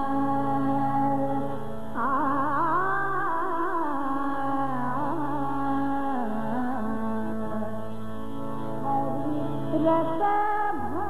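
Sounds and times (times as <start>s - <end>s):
woman singing: 0.0s - 7.9s, 8.8s - 11.0s
tanpura drone: 0.0s - 11.0s.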